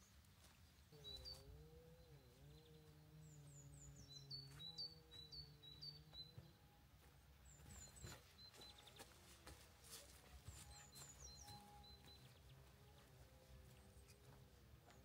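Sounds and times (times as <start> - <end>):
faint low hum: 0.0 - 15.0
songbird chirping: 0.0 - 15.0.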